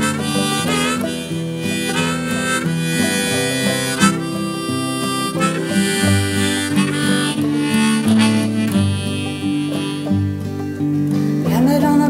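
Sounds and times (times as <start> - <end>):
harmonica melody: 0.0 - 11.5
strummed acoustic guitar: 0.0 - 12.0.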